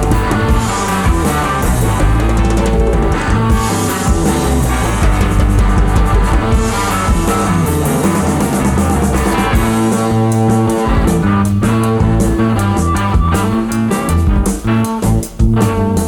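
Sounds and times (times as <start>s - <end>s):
drum kit playing: 0.0s - 16.0s
electric guitar: 0.0s - 16.0s.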